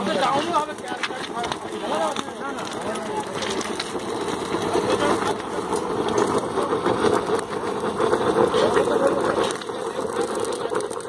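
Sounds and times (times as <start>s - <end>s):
burner flame blowing: 0.0s - 11.0s.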